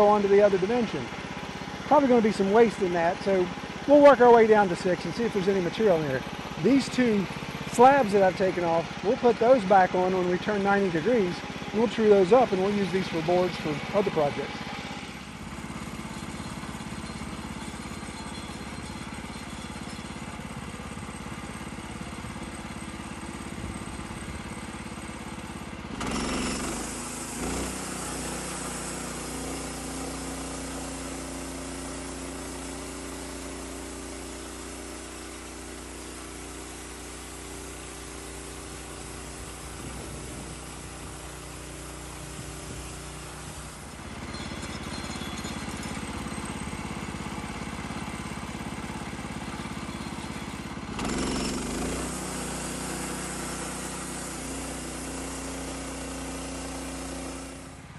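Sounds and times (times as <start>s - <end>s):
sawmill engine cutting log: 0.0s - 57.9s.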